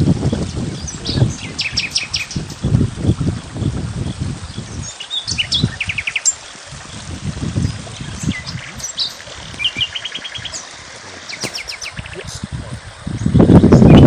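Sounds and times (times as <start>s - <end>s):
songbirds chirping and trilling: 0.1s - 14.0s.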